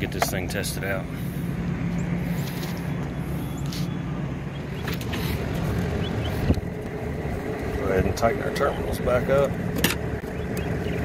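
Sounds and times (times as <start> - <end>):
hvac machinery humming: 0.0 - 11.0.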